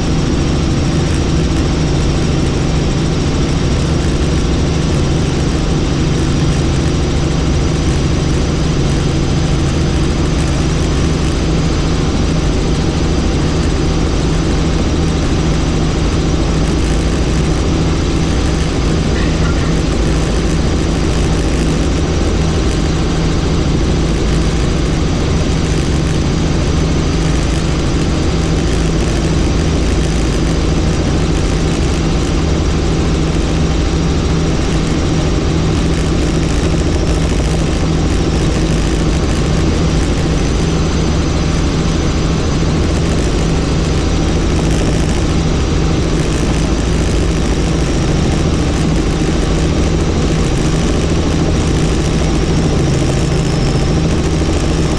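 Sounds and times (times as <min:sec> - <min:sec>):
helicopter rotor and engine: 0:00.0 - 0:54.9.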